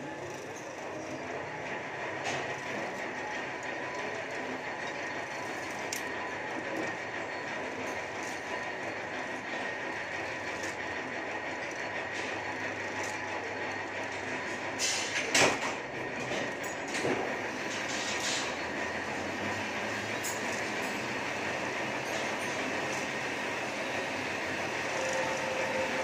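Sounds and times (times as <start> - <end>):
press mechanical hum and whine: 0.0 - 26.0.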